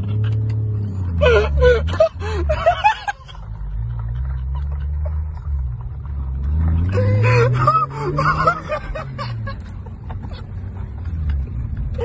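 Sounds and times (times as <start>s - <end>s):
car engine humming and revving: 0.0s - 12.0s.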